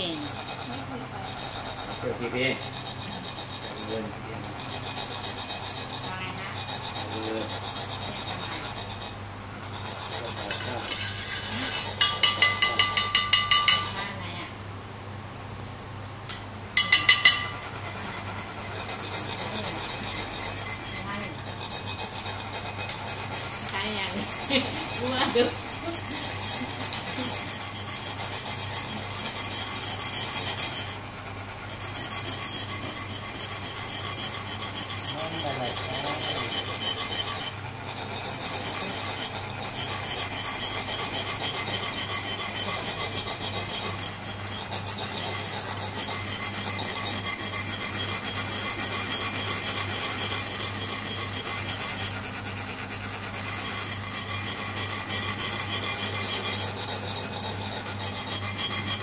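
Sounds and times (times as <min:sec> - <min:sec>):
metal rod rasping metal funnels: 0:00.0 - 0:14.2, 0:16.3 - 0:59.0.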